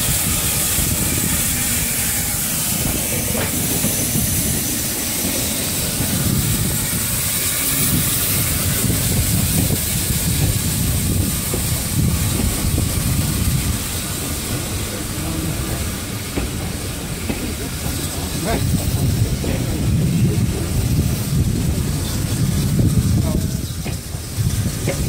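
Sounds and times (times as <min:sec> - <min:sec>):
steam hissing: 0:00.0 - 0:25.0
train wheels rumbling on rails: 0:00.0 - 0:25.0.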